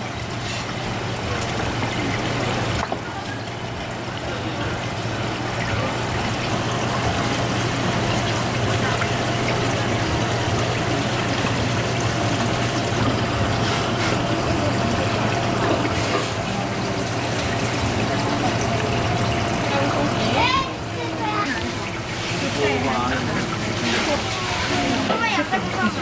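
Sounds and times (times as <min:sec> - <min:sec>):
running water: 0:00.0 - 0:26.0.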